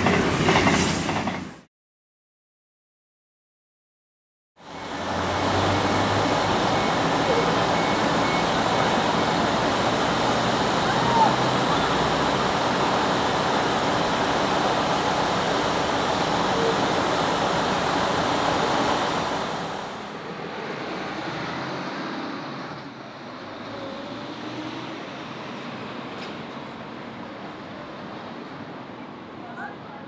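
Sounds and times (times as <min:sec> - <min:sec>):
train rushing: 0:00.0 - 0:01.7, 0:04.7 - 0:30.0.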